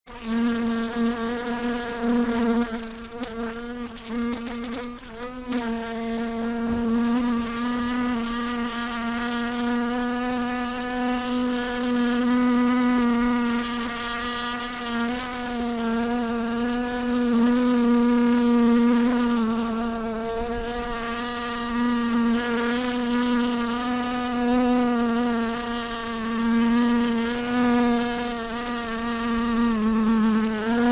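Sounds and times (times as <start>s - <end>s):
fly buzzing: 0.1s - 30.9s.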